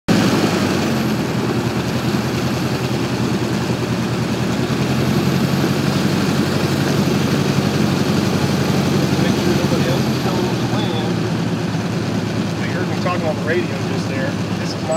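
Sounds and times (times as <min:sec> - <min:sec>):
airplane engine and propeller: 0:00.1 - 0:14.9.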